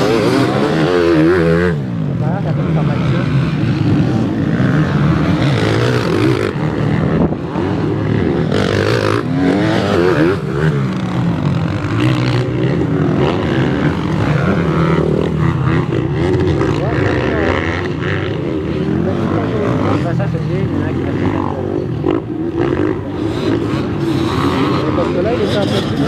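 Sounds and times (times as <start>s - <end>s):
motocross bike engines revving: 0.0s - 26.0s
motorbike passing close: 0.0s - 26.0s.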